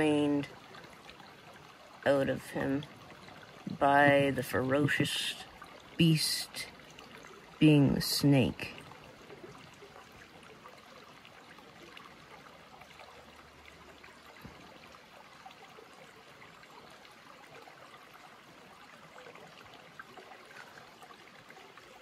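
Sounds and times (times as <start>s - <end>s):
shallow water trickling: 0.0s - 22.0s.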